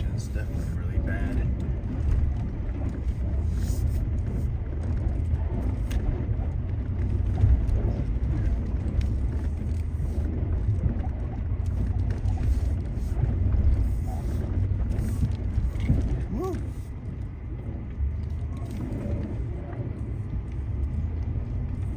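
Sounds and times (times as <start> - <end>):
off-road vehicle engine rumble: 0.0 - 21.9.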